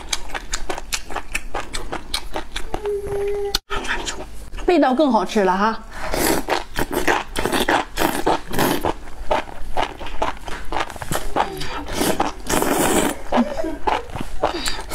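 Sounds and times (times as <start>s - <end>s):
slurping and chewing: 0.0s - 4.7s, 6.0s - 14.9s.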